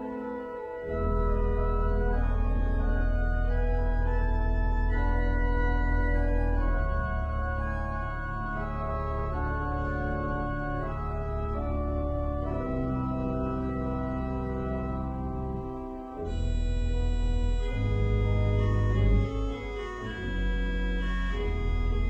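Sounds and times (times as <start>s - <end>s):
church organ chords: 0.0s - 22.0s.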